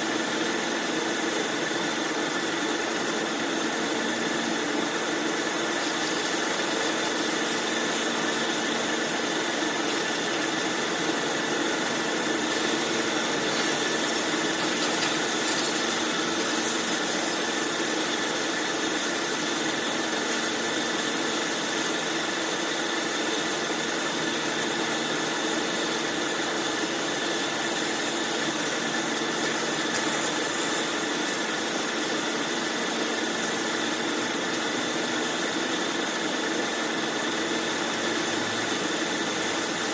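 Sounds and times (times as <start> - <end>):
bandsaw running: 0.0 - 39.9.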